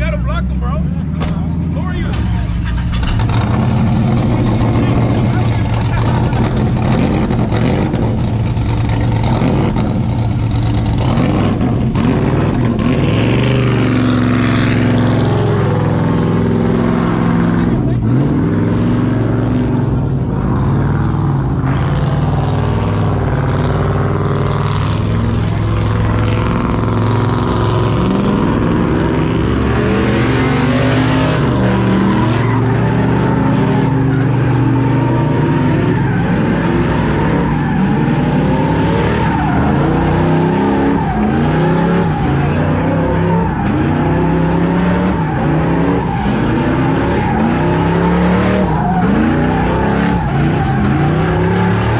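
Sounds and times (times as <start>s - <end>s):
truck engine revving hard: 0.0s - 51.9s.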